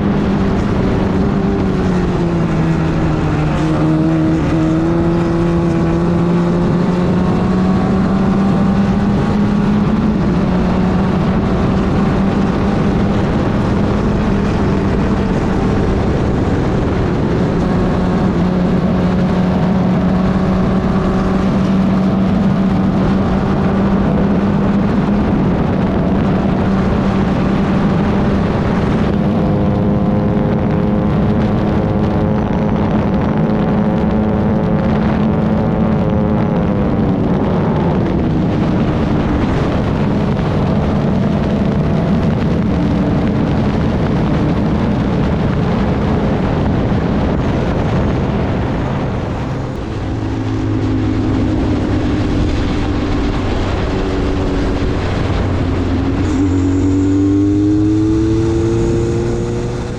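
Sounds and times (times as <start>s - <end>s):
race car engine running hard: 0.0s - 59.9s
rush of noise: 0.0s - 59.9s.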